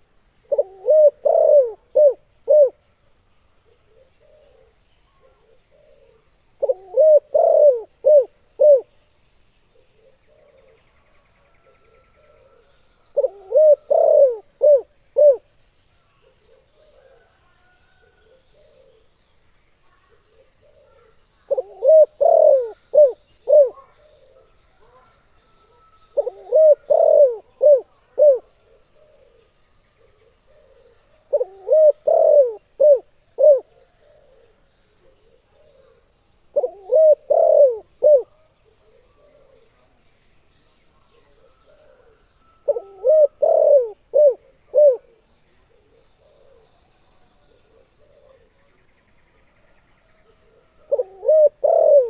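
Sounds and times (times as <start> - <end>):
dove cooing: 0.0 - 2.8, 3.6 - 9.0, 9.7 - 10.9, 11.6 - 15.5, 16.2 - 19.2, 20.0 - 40.0, 41.1 - 48.6, 50.2 - 52.0.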